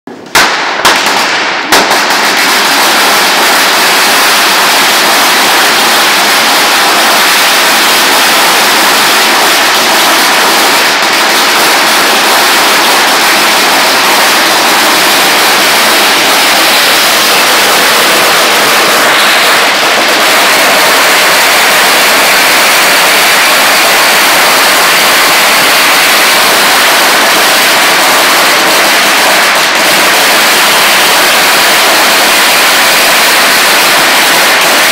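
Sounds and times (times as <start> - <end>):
firecrackers crackling: 0.1 - 34.9
separate firecracker bangs: 0.1 - 34.9.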